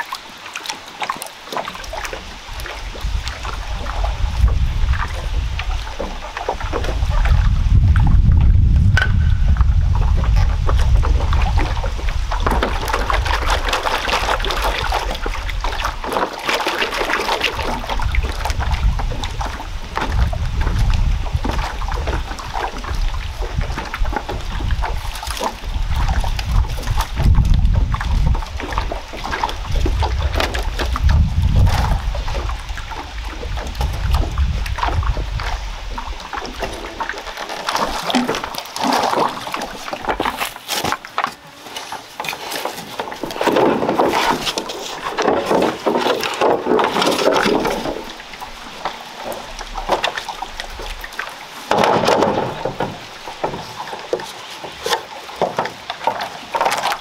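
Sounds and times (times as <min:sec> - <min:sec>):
water lapping and sloshing: 0:00.0 - 0:57.0
bamboo poles knocking and clattering: 0:01.0 - 0:57.0
wind rumbling on microphone: 0:01.6 - 0:53.9.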